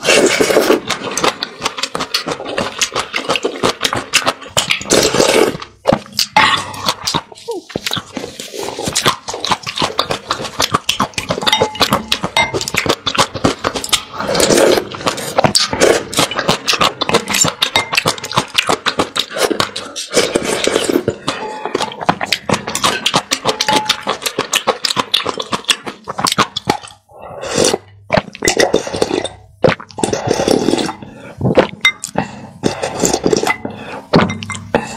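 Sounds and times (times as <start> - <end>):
slurping soup: 0.0 - 34.9
wet mouth clicks: 0.0 - 34.9.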